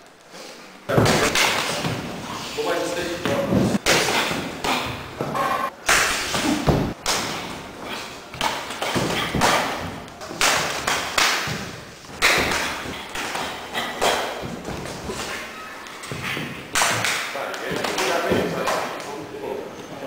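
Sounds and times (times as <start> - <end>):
punches thudding: 0.9 - 2.3, 3.2 - 18.7.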